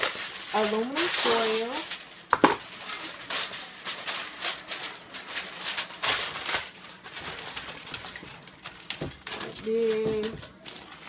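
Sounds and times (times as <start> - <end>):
aluminum foil crinkling: 0.0 - 11.0.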